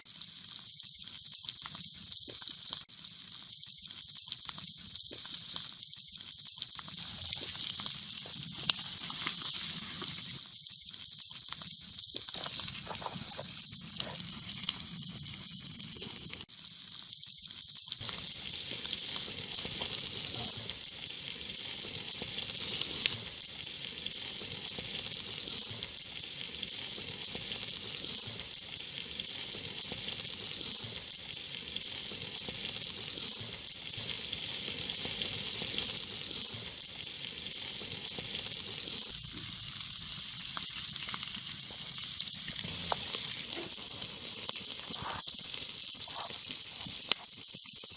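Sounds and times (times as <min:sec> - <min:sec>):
meat sizzling on metal sheet: 0:00.0 - 0:47.9.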